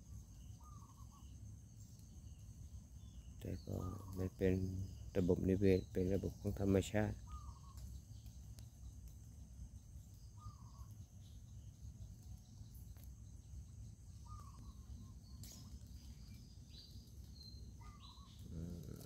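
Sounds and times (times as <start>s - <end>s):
bird chirps: 0.0s - 19.0s
insects droning: 0.0s - 19.0s.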